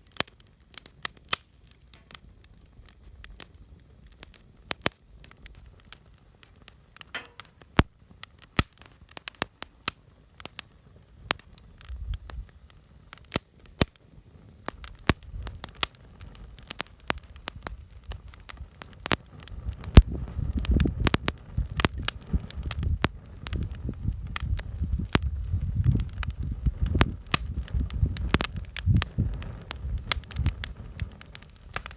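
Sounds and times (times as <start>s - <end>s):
campfire crackling and popping: 0.0s - 31.9s.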